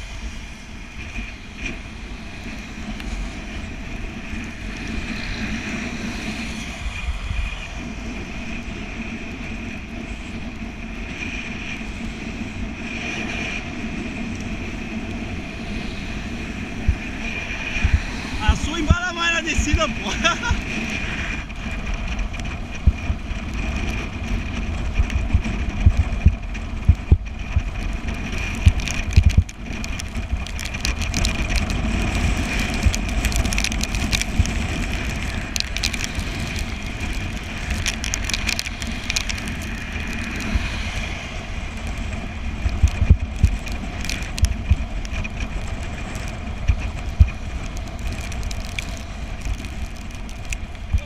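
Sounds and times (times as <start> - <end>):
tyre and road noise: 0.0 - 51.0
wind buffeting microphone: 0.0 - 51.0.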